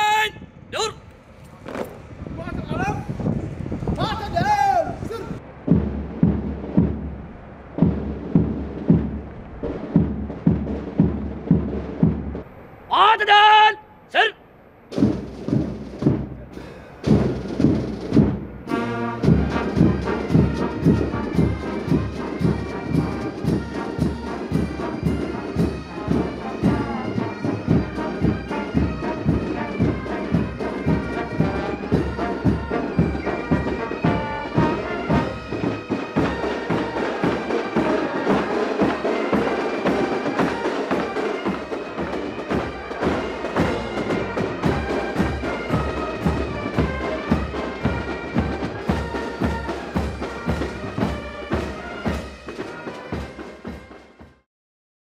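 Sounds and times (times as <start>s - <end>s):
marching drums: 1.6s - 54.5s
brass band playing a march: 7.8s - 14.3s, 14.9s - 54.5s.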